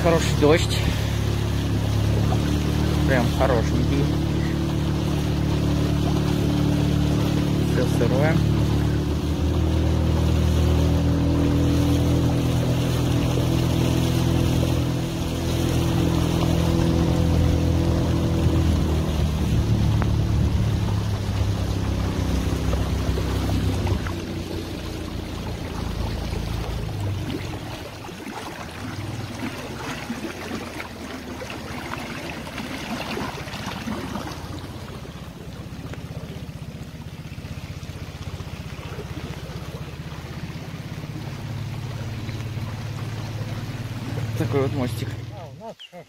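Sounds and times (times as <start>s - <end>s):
heavy rain pattering on water: 0.0s - 45.5s
outboard motor running: 0.0s - 46.0s.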